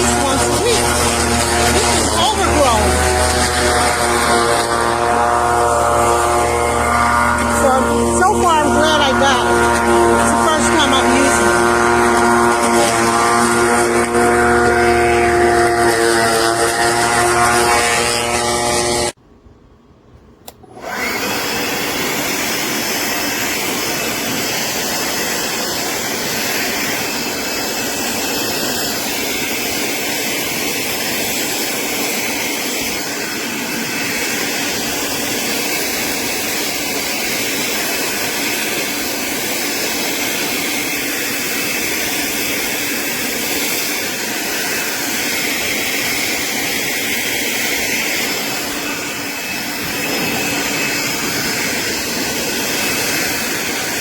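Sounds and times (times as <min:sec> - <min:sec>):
electric lawn mower whining: 0:00.0 - 0:19.2, 0:20.4 - 0:54.0.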